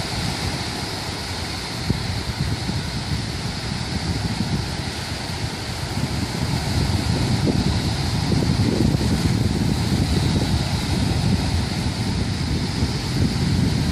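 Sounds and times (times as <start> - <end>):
waves hissing: 0.0 - 13.9
wind buffeting microphone: 0.0 - 13.9.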